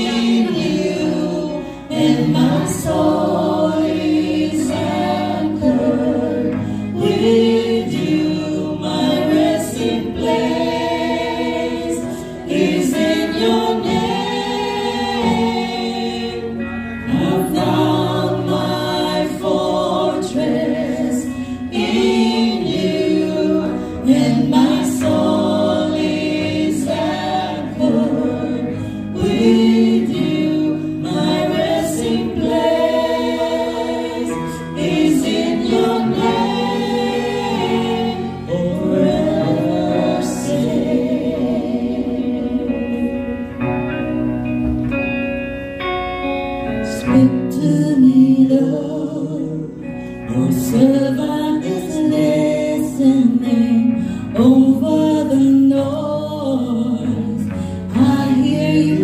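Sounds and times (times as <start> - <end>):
group singing worship song: 0.0 - 44.9, 46.7 - 59.0.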